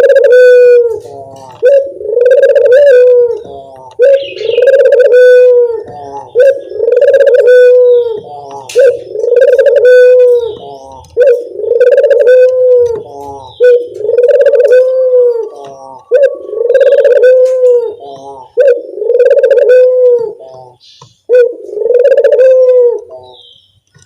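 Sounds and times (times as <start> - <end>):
dove cooing: 0.0 - 23.5.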